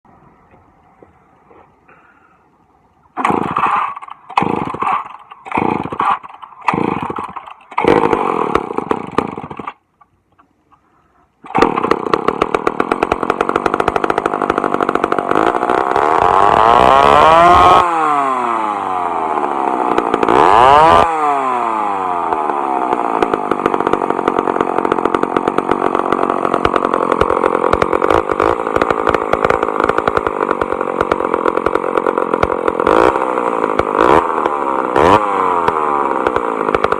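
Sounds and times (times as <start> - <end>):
chainsaw pull-start bursts: 3.1 - 9.8, 11.4 - 36.9
chainsaw engine revving and running: 3.2 - 9.8, 11.5 - 36.9.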